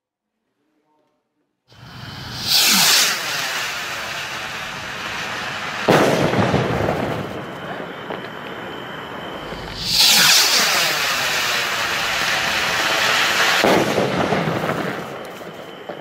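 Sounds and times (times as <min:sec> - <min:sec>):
firework rocket whooshing: 0:01.7 - 0:16.0
firework bang echoing: 0:02.2 - 0:16.0.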